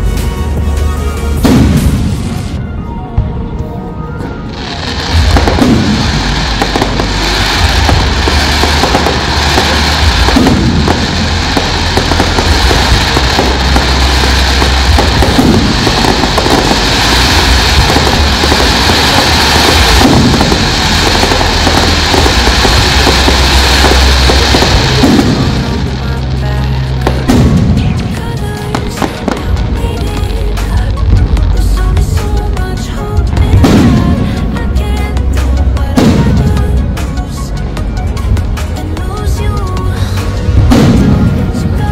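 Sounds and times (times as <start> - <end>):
fireworks crackling: 0.0 - 2.6, 4.4 - 41.9
loud music: 0.0 - 41.9
steady low rumble: 0.0 - 41.9.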